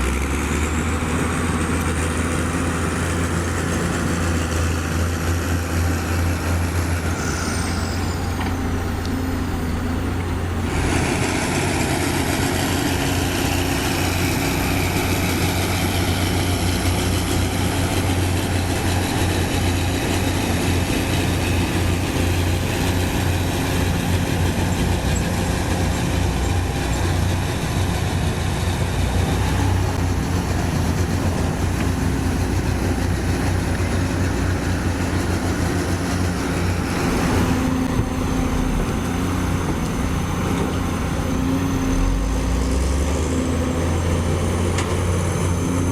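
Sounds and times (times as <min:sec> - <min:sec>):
heavy diesel engine humming: 0:00.0 - 0:45.9.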